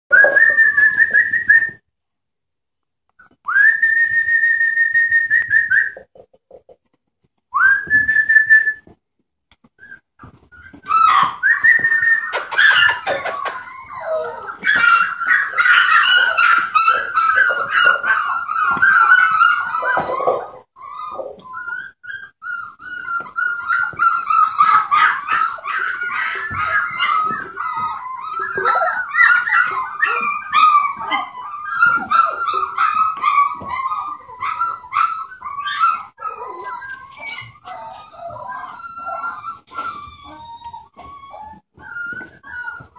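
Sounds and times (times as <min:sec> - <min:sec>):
puppy whining: 0:00.1 - 0:01.8, 0:03.1 - 0:07.0, 0:07.6 - 0:42.9.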